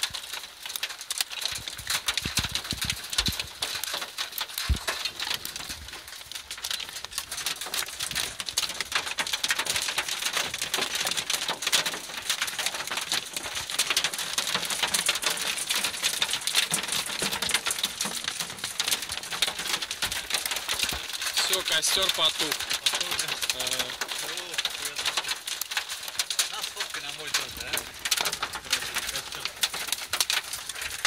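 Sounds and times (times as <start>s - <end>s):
hail pelting a car roof: 0.0s - 31.0s.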